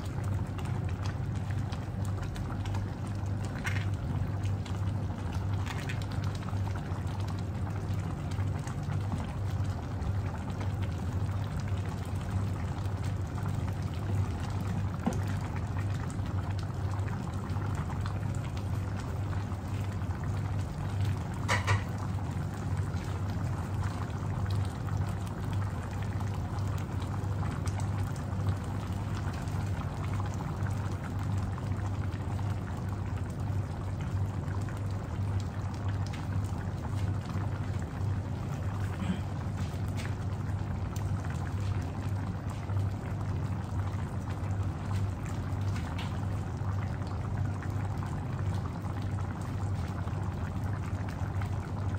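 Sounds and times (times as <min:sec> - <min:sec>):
sauce bubbling in a pan: 0:00.0 - 0:51.9.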